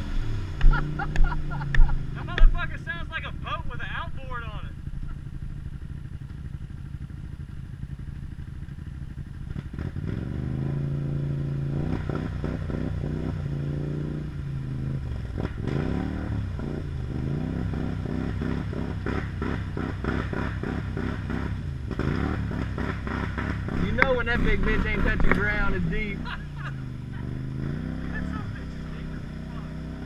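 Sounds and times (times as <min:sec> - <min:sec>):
atv engine idling and revving: 0:00.0 - 0:30.0.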